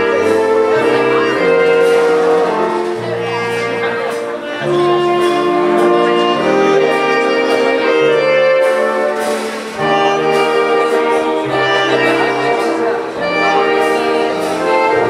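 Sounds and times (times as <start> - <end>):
jazz big band playing: 0.0 - 15.0.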